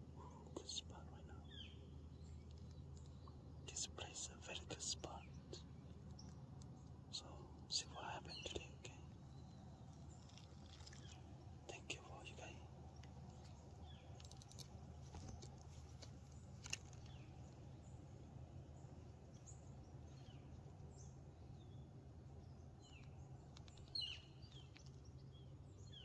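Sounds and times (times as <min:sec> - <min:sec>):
low background rumble: 0:00.0 - 0:26.0
faint bird chirps: 0:00.1 - 0:26.0.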